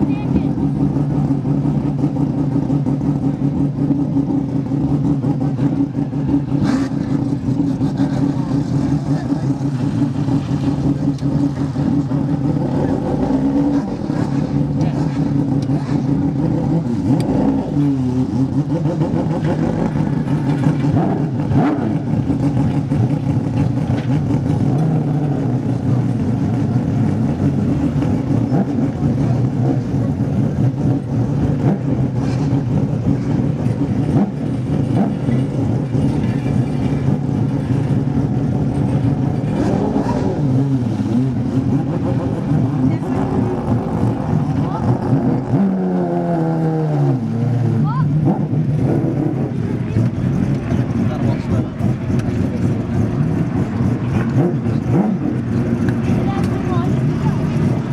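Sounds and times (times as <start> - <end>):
racing car engines running: 0.0 - 57.9.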